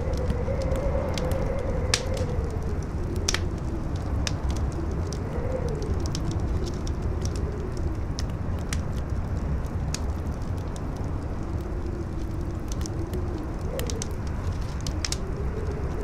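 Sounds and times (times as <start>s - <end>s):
campfire crackling: 0.0s - 16.0s
howling wind: 0.0s - 16.0s.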